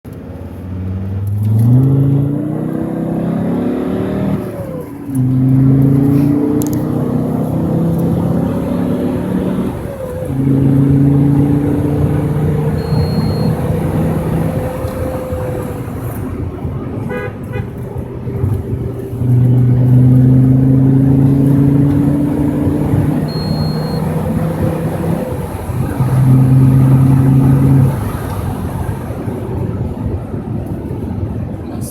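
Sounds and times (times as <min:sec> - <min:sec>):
car engine accelerating hard: 0:00.1 - 0:31.9.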